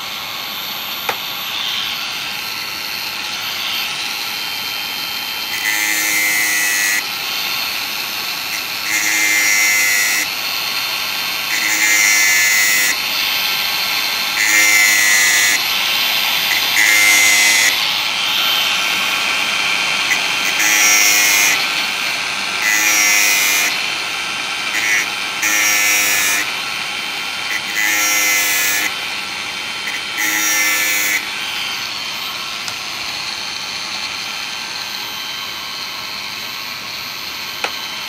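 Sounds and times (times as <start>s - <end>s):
angle grinder whining: 0.0s - 38.0s
grinder grinding chain cutters: 0.0s - 38.0s.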